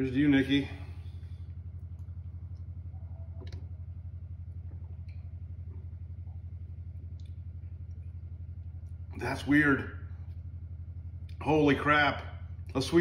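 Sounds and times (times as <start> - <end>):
pulsing low hum: 0.0 - 13.0.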